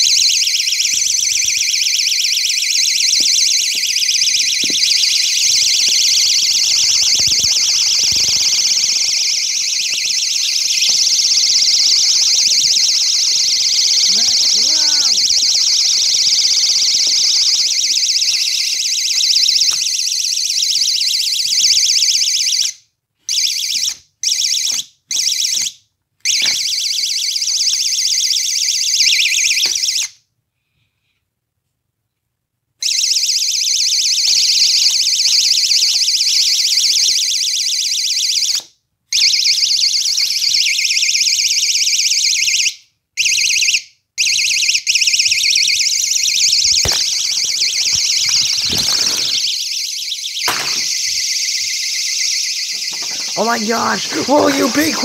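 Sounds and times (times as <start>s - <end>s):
shrill pulsing door alarm: 0.0s - 30.3s, 32.8s - 55.0s.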